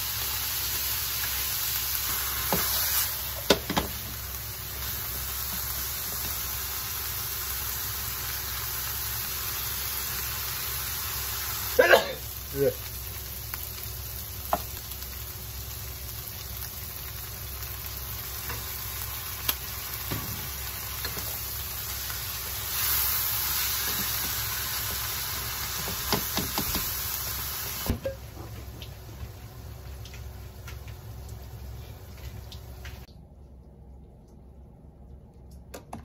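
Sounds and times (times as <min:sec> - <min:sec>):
food sizzling in a frying pan: 0:00.0 - 0:33.1.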